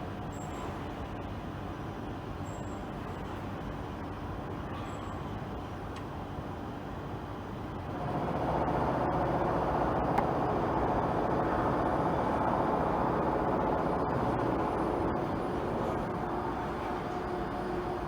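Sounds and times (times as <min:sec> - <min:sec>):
machine running with hum: 0:00.2 - 0:18.0.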